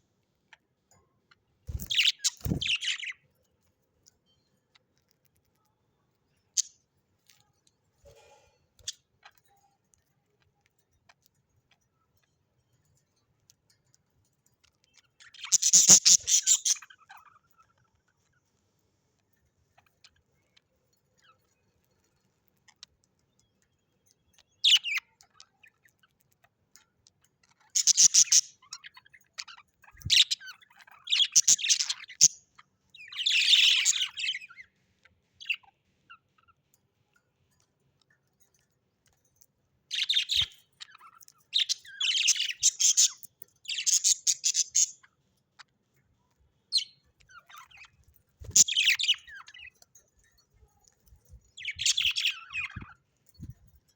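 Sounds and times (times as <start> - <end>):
bird chirping: 0.0 - 13.2, 14.6 - 18.6, 19.2 - 53.9.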